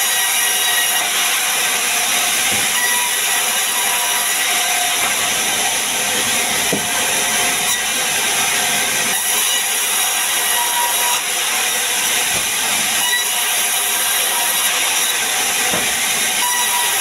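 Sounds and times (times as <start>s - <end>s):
band saw cutting timber: 0.0s - 17.0s.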